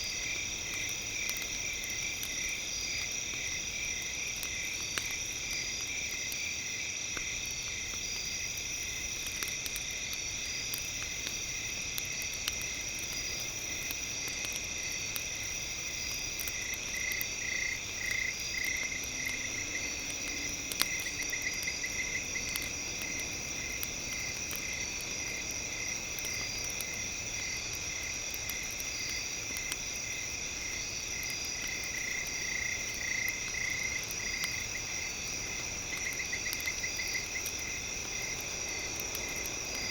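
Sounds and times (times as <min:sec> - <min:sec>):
campfire crackling: 0:00.0 - 0:39.9
campfire pop: 0:00.0 - 0:39.9
insects trilling: 0:00.0 - 0:39.9.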